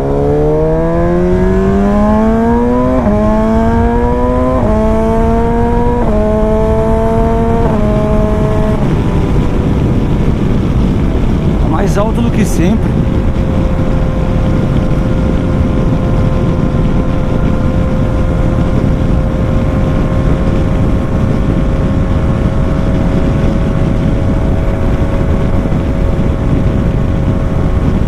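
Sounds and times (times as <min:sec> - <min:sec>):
motorcycle engine: 0:00.0 - 0:28.0
wind rumble on microphone: 0:00.0 - 0:28.0.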